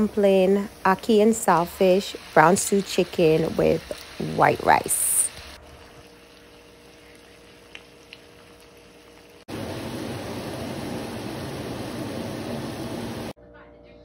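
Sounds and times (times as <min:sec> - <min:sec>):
faint kitchen hum: 0:00.0 - 0:14.0
stew bubbling in a pot: 0:00.2 - 0:13.4.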